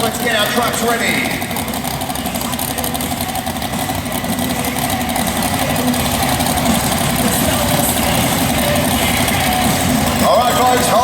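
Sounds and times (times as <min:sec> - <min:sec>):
truck engines idling: 0:00.0 - 0:11.0.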